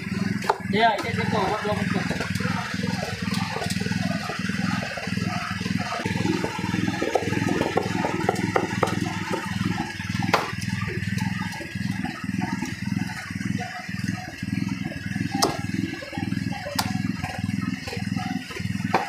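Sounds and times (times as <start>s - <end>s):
pulsing low hum: 0.0s - 19.0s.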